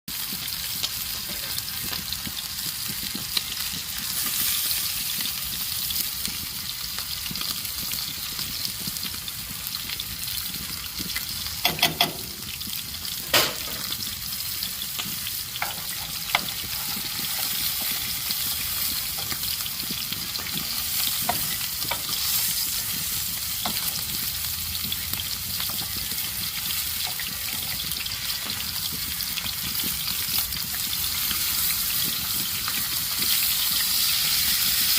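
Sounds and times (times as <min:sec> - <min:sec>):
food sizzling in a pan: 0:00.1 - 0:34.9.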